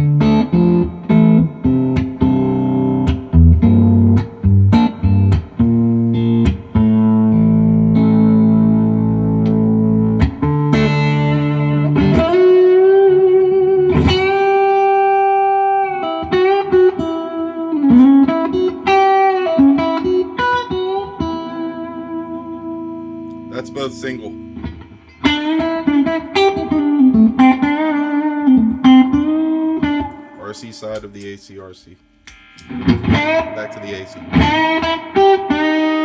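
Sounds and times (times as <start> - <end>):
electric guitar lead line: 0.0 - 31.6, 32.2 - 36.0
electric guitar chords: 0.0 - 36.0.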